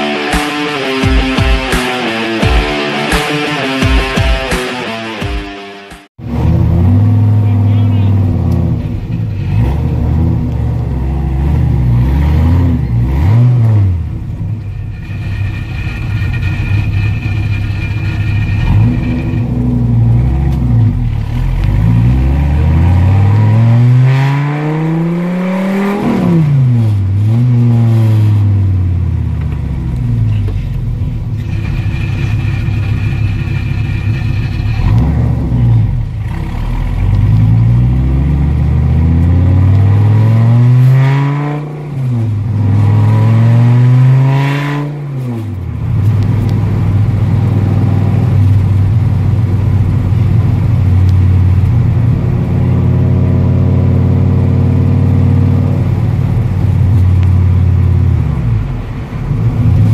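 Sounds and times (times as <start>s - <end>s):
car engine accelerating through gears: 6.2s - 16.0s, 18.5s - 59.9s.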